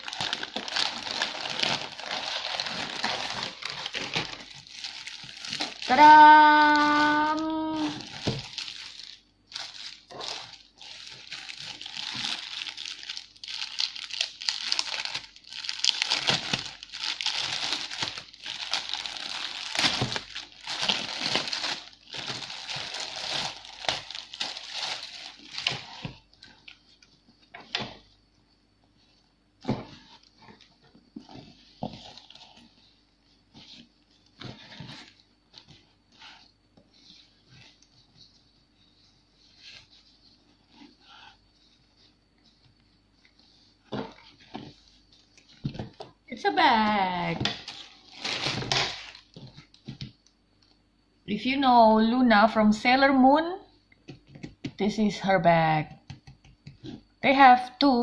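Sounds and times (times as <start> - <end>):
plastic packaging crinkling: 0.0 - 28.1, 29.6 - 50.8.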